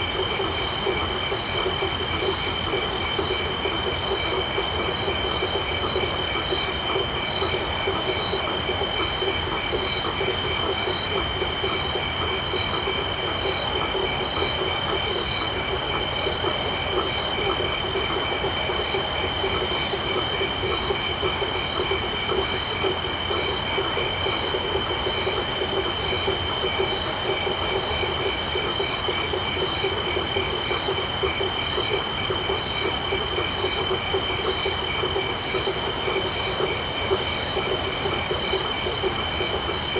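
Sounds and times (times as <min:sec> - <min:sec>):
high insect trills: 0:00.0 - 0:39.9
pulsing frog chorus: 0:00.0 - 0:39.9.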